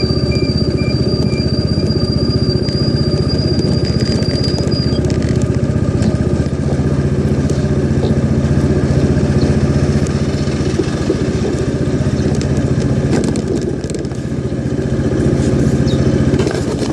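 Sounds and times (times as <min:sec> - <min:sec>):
scooter engine running: 0:00.0 - 0:16.9.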